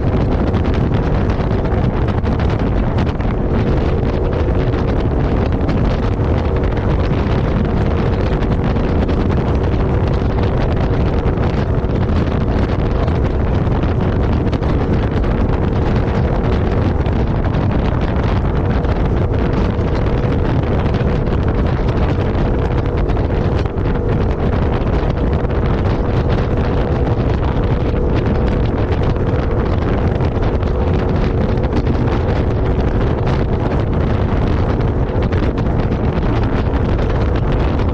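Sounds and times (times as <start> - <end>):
vehicle engine drone: 0.0 - 37.9
wind buffeting microphone: 0.0 - 37.9.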